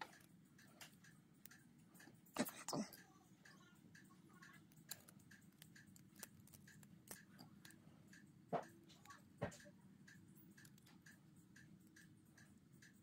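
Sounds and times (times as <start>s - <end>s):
faint even ticking: 0.0s - 13.0s.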